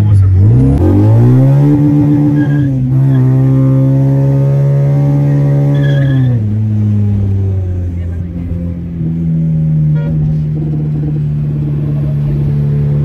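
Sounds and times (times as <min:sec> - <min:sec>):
car engine with heavy exhaust: 0:00.0 - 0:13.0.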